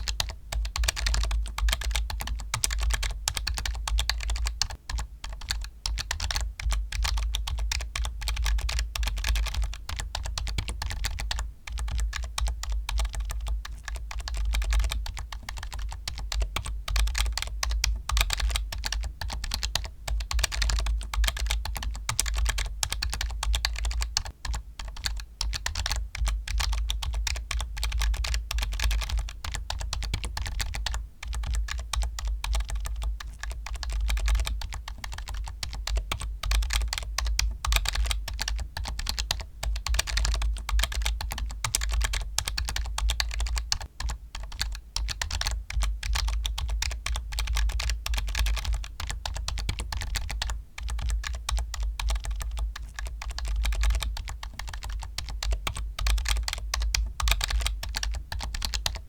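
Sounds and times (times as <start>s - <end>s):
fast typing on keyboard: 0.0s - 59.0s.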